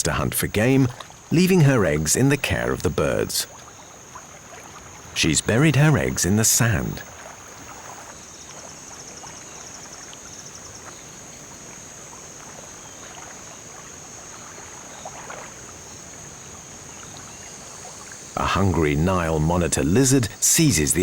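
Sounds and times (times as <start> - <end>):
faint water wash: 0.0 - 21.0.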